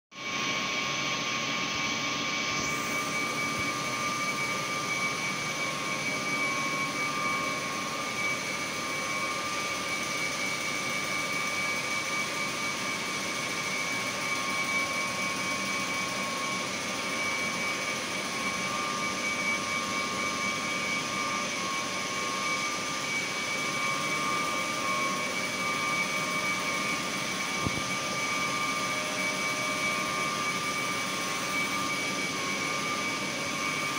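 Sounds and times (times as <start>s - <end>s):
high-pitched machine whine: 0.1s - 33.9s
compressor running: 0.2s - 33.9s.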